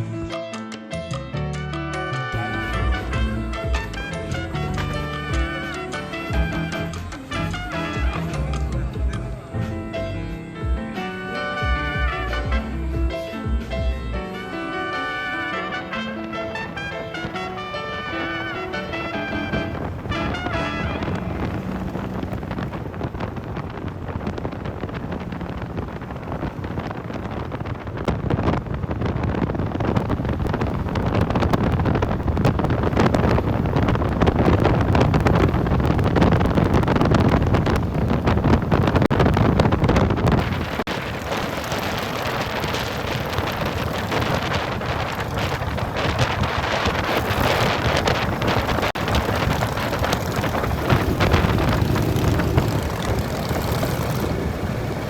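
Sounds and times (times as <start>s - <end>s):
wind noise on microphone: 0.0s - 0.4s, 1.0s - 55.0s
motorcycle engine running: 2.4s - 9.4s, 15.6s - 55.0s.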